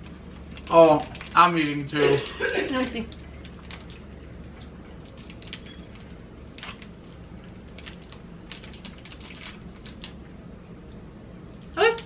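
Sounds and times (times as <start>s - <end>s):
crunchy cookies being chewed: 0.0s - 12.0s
low room hum: 0.0s - 12.0s.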